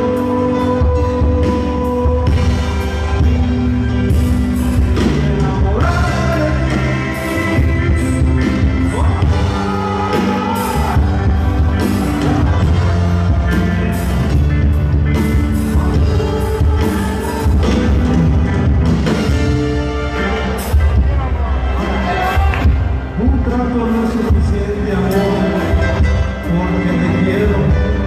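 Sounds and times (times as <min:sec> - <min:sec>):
drums: 0:00.0 - 0:28.0
electric bass: 0:00.0 - 0:28.0
electric guitar lead melody: 0:00.0 - 0:28.0.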